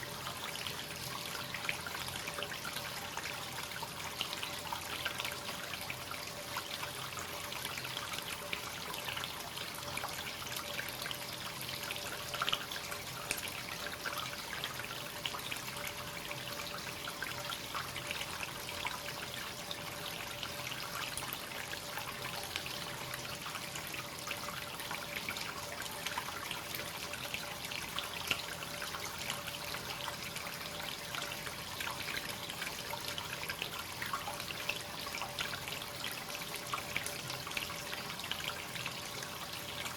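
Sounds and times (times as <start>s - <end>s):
water trickling into a bath: 0.0s - 39.9s.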